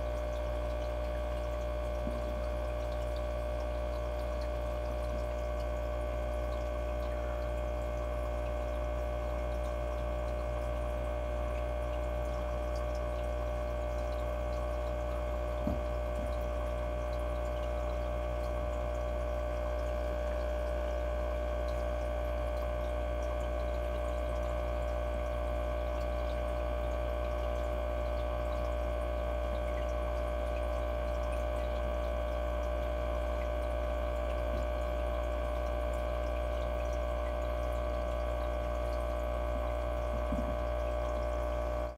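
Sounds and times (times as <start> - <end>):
aquarium filter motor hum: 0.0 - 41.9
water trickling: 0.0 - 41.9.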